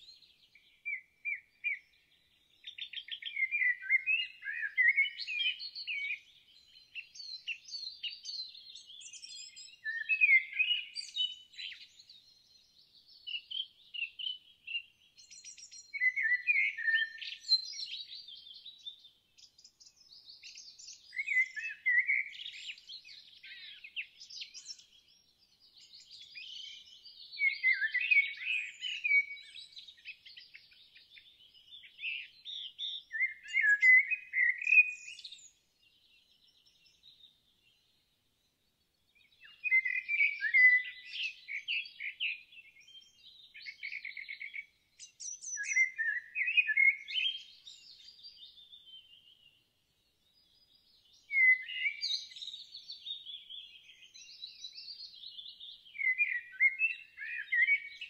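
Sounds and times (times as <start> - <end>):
songbirds chirping and warbling: 0.0 - 58.0.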